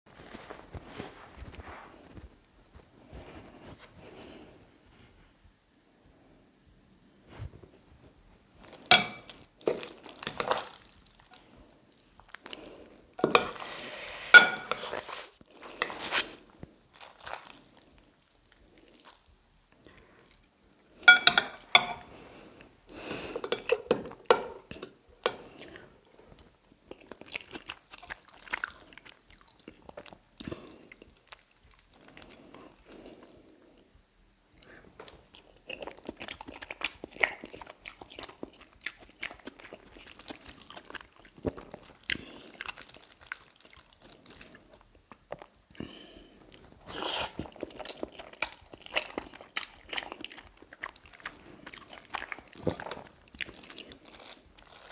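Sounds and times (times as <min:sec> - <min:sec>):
person chewing food: 0:08.7 - 0:33.8, 0:34.6 - 0:54.9.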